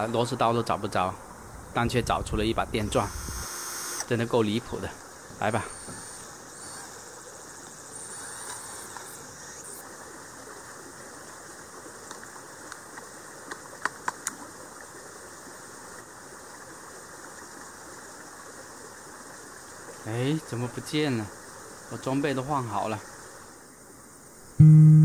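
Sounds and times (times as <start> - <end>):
faint high insect-like tones: 0.0 - 24.6
outdoor background hiss: 0.0 - 25.0.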